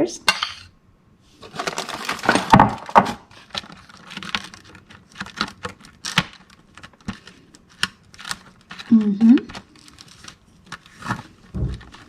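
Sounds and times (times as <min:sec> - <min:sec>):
crackers rustling: 0:01.4 - 0:12.0.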